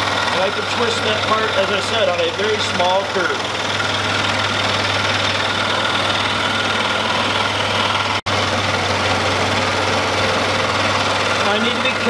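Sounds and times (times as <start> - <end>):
scroll saw running: 0.0 - 12.0.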